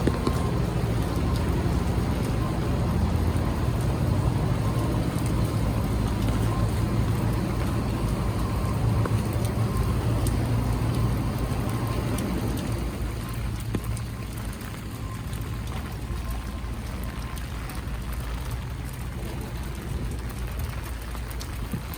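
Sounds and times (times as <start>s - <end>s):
rain pattering and dripping: 0.0s - 21.9s
road traffic rumble: 0.0s - 21.9s.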